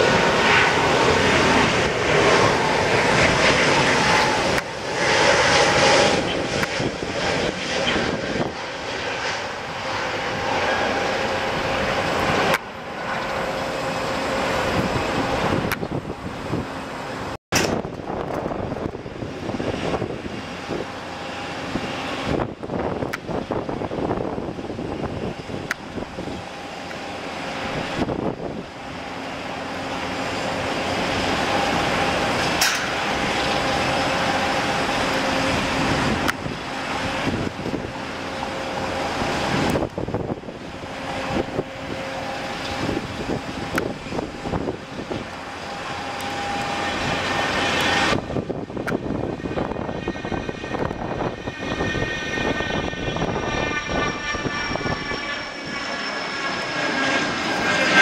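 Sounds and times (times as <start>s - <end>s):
jet engines rushing and whining: 0.0s - 58.0s
jet passing with falling whine: 0.0s - 58.0s.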